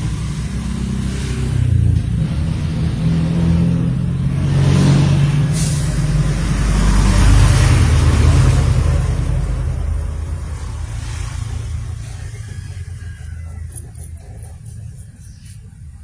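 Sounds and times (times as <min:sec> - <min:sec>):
vehicle engine rumbling past: 0:00.0 - 0:16.0.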